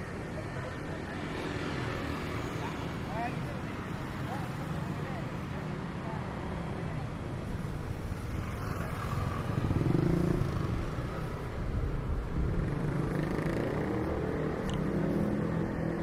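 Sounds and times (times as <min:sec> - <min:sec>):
motorbikes and cars passing: 0:00.0 - 0:16.0.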